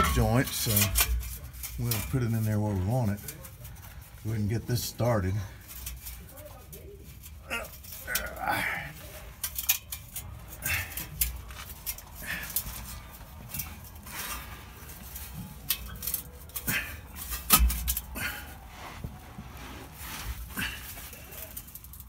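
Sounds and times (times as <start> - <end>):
metal exhaust pipe clinking: 0.0 - 19.3, 20.0 - 22.0.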